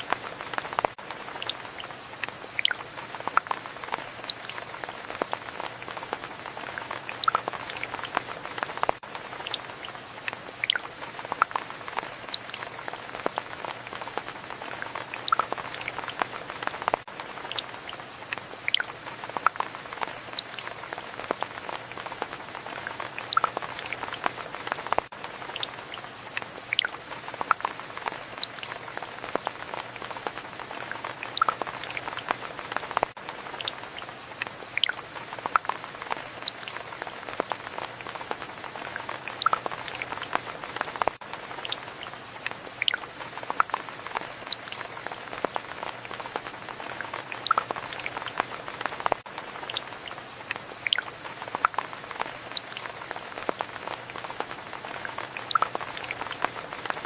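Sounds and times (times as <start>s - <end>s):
drops pattering and dripping: 0.0s - 57.0s
steady rain falling: 0.0s - 57.0s.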